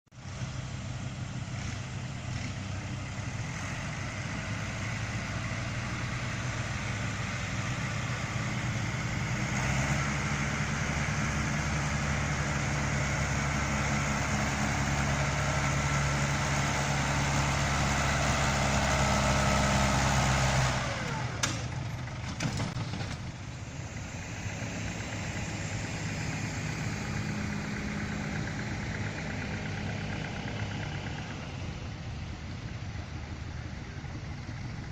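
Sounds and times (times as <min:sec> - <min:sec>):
tractor engine under load: 0:00.1 - 0:34.9.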